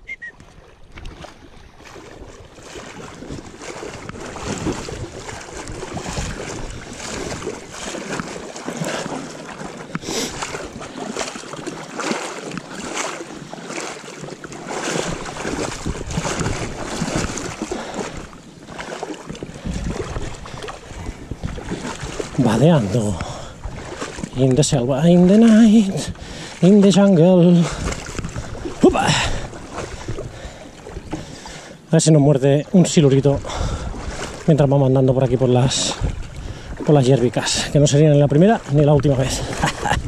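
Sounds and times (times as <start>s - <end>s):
wind on microphone: 0.0s - 11.8s, 14.7s - 31.5s, 32.6s - 40.0s
water splashing around wading legs: 0.0s - 40.0s.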